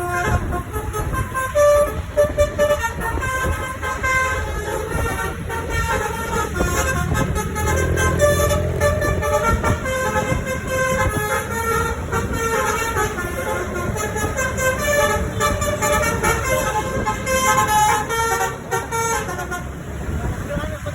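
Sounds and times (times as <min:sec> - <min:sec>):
musical bus horn playing tune: 0:00.0 - 0:19.9
bus engine running: 0:00.0 - 0:20.9.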